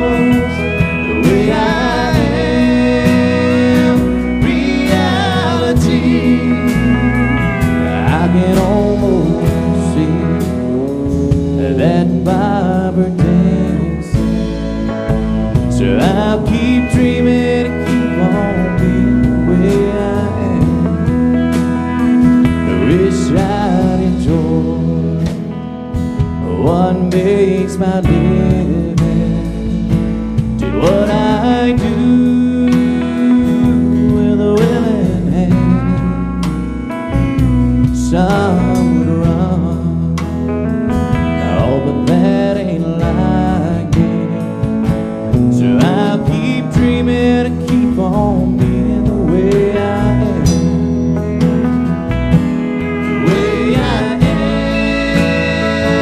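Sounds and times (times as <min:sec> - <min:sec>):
drum kit: 0:00.0 - 0:56.0
electric bass: 0:00.0 - 0:56.0
person singing: 0:00.0 - 0:56.0
strummed acoustic guitar: 0:00.0 - 0:56.0.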